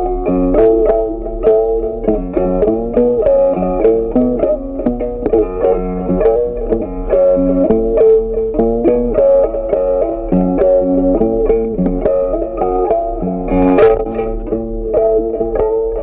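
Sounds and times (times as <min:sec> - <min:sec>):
plucked-string instrumental music: 0:00.0 - 0:16.0.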